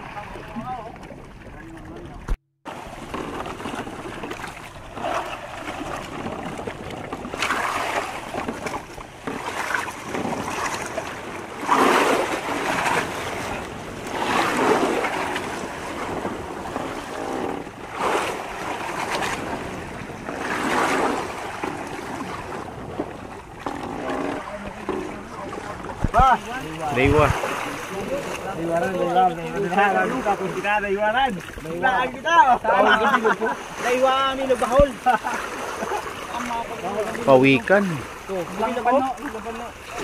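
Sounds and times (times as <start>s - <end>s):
sea water splashing: 0.0s - 40.0s.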